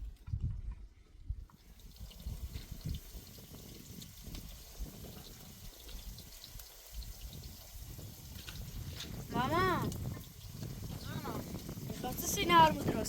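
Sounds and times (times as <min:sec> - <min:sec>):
liquid trickling: 0:01.5 - 0:13.0.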